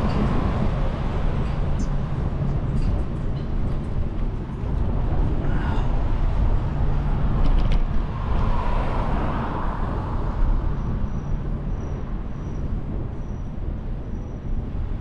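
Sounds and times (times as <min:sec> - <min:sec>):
road traffic: 0:00.0 - 0:15.0
wind rumbling on microphone: 0:00.0 - 0:15.0.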